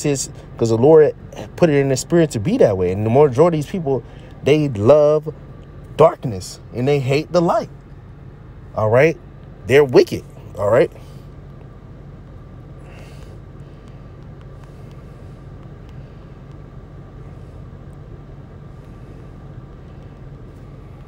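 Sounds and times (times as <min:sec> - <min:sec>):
faint high whine: 0:00.0 - 0:21.0
low mechanical rumble and hum: 0:00.0 - 0:21.0.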